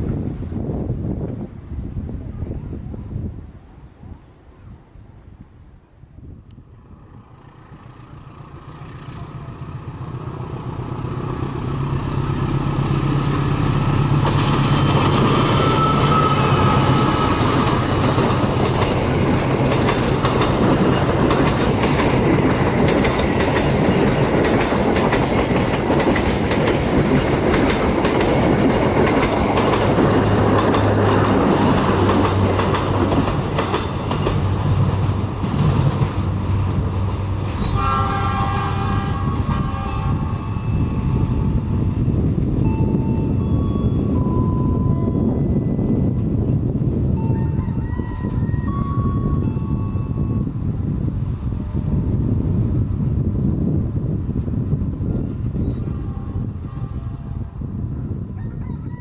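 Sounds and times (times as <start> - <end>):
train passing on rails: 0.0 - 5.4, 6.4 - 58.4.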